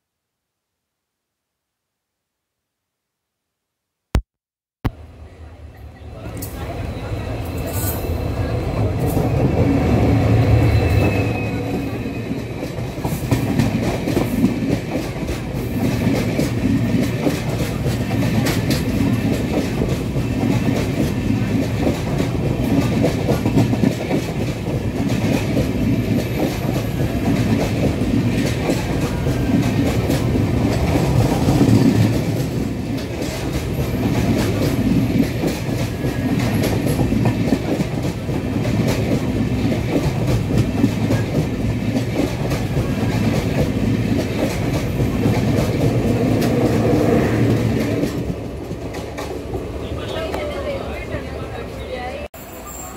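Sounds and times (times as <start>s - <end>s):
passing train rumble: 4.9s - 52.9s.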